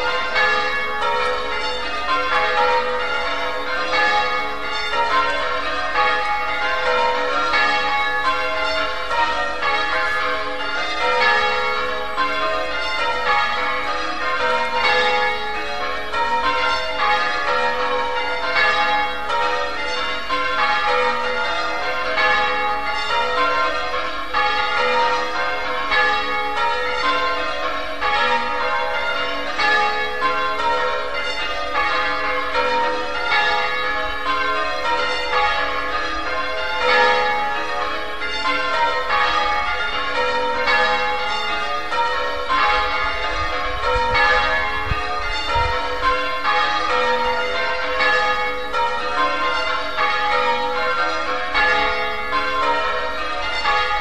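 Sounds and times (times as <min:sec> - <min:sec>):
church bells change ringing: 0:00.0 - 0:54.0.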